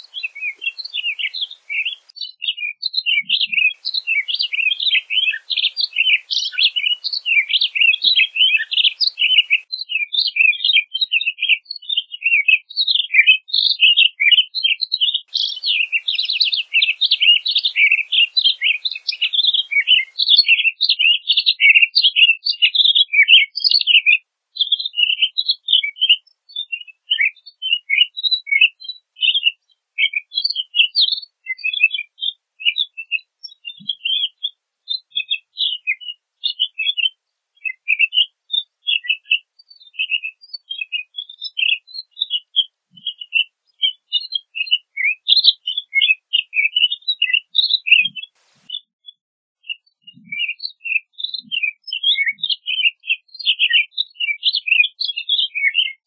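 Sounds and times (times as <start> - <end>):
bird singing whistled chirps: 0.0 - 56.0.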